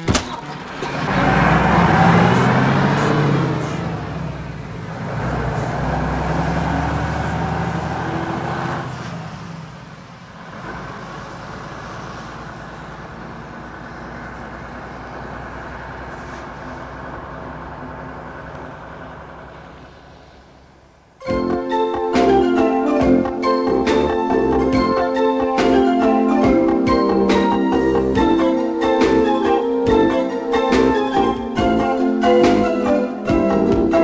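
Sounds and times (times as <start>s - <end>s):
truck engine pulling away: 0.0s - 34.0s.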